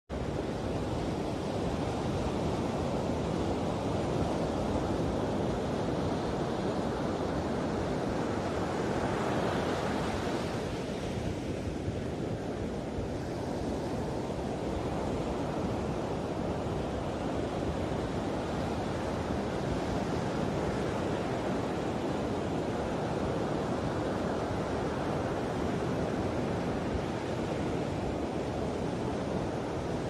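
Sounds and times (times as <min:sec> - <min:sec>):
ocean surf on beach: 0:00.1 - 0:30.0.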